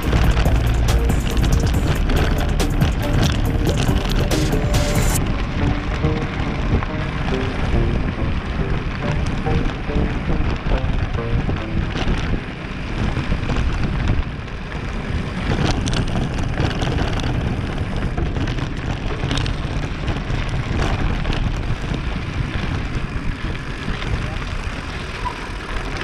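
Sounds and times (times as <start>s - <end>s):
tyres rolling on dirt track: 0.0s - 26.0s
wind buffeting microphone: 0.0s - 26.0s.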